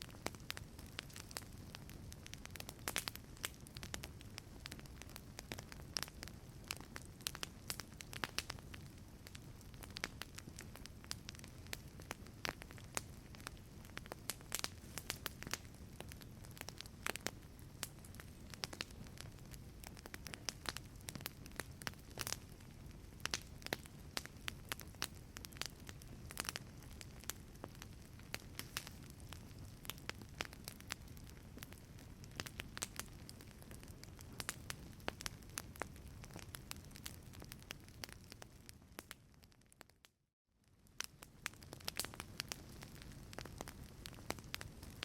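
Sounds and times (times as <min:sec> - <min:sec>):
fire low rumble: 0:00.0 - 0:39.8, 0:40.6 - 0:45.0
wood fire crackling: 0:00.0 - 0:40.0, 0:40.6 - 0:45.0.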